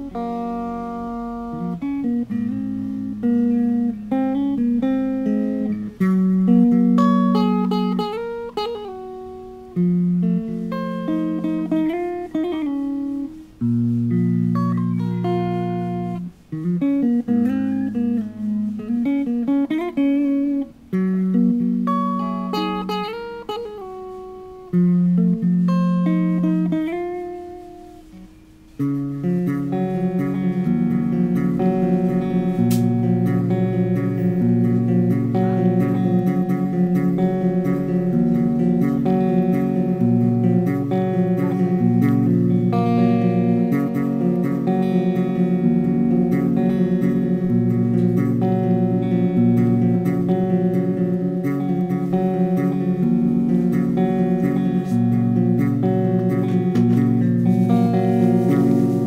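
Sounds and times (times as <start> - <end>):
electric guitar notes and chords: 0.0 - 59.0.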